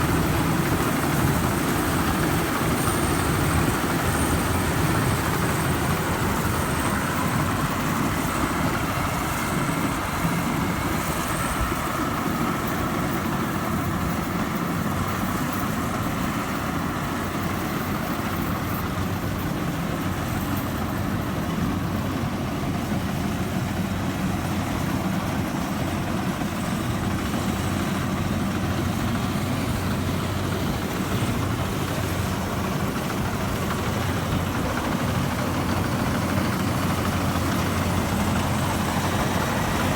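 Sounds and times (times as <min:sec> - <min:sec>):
combine harvester diesel engine running: 0:00.0 - 0:39.9
high machinery whine: 0:00.0 - 0:39.9.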